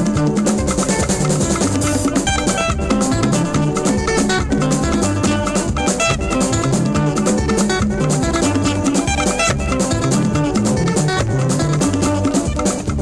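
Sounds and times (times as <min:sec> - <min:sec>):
bass line: 0:00.0 - 0:13.0
drum kit and percussion groove: 0:00.0 - 0:13.0
electric guitar: 0:00.0 - 0:13.0.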